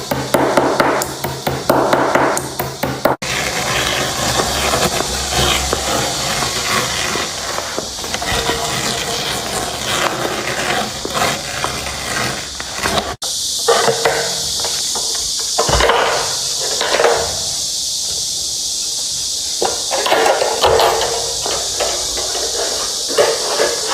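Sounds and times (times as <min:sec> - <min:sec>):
metal machining hiss: 0:00.0 - 0:23.9.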